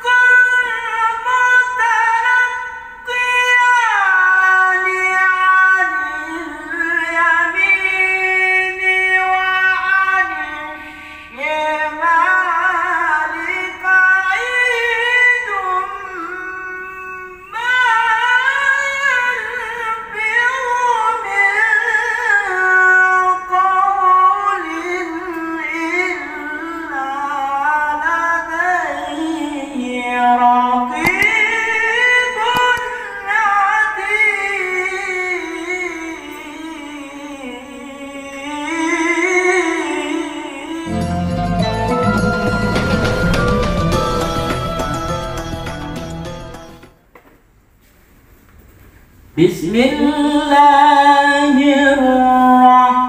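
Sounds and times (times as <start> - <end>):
man chanting melodic recitation: 0.0 - 42.9, 49.4 - 53.0.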